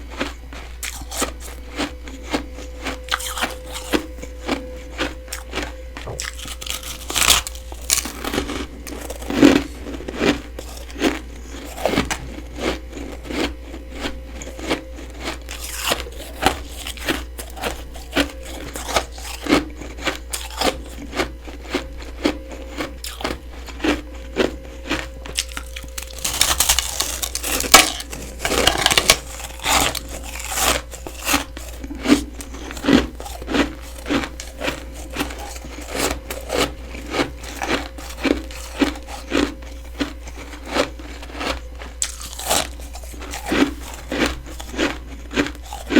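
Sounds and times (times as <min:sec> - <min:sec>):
chewing crunchy frost: 0:00.0 - 0:45.9.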